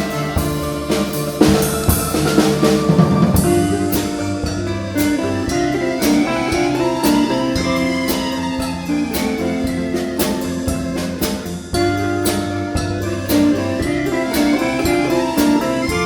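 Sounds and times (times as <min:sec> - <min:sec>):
folk instrument ensemble playing: 0:00.0 - 0:16.0
steady drum beat: 0:00.0 - 0:16.0.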